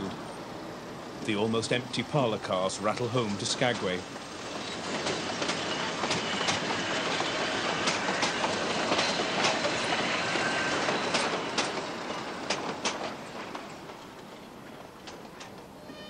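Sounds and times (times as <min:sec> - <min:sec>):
train wheels rattling on track: 0:00.0 - 0:16.0
wheels clacking over rail joints: 0:02.7 - 0:16.0.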